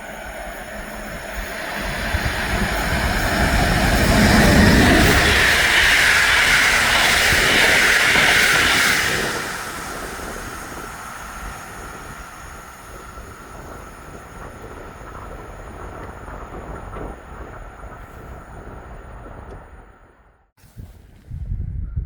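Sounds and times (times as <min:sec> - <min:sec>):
train passing: 0:00.0 - 0:20.5.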